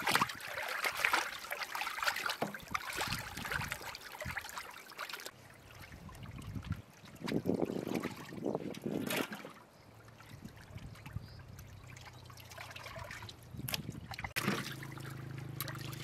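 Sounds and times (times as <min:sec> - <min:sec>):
water splashing in a metal pot: 0:00.0 - 0:16.0.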